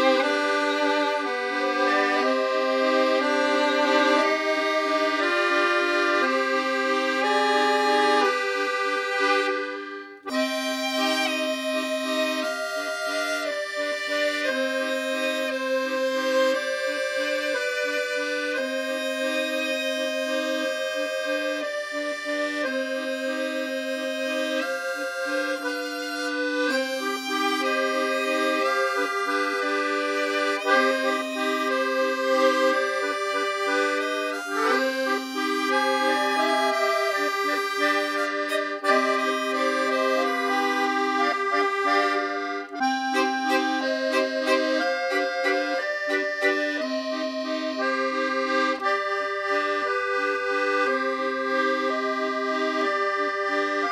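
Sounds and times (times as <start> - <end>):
accordion music: 0.0 - 53.9.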